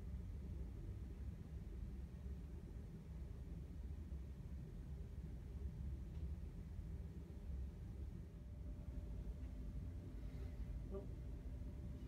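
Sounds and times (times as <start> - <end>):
low room rumble: 0.0 - 12.0.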